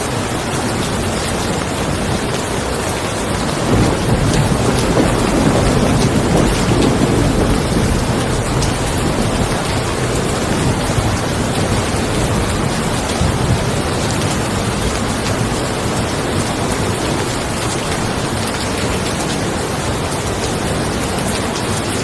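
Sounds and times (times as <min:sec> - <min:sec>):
steady rain: 0:00.0 - 0:22.0
thunder rumble: 0:00.1 - 0:22.0.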